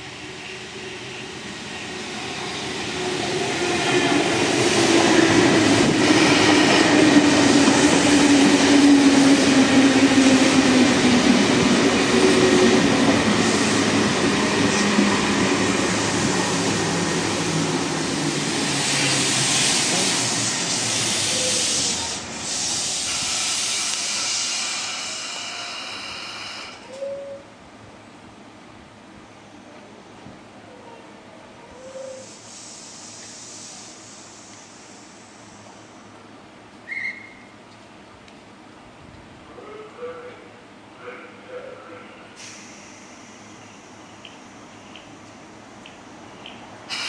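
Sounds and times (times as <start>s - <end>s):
train arriving and braking: 0.0s - 47.0s
train standing hum: 0.0s - 47.0s.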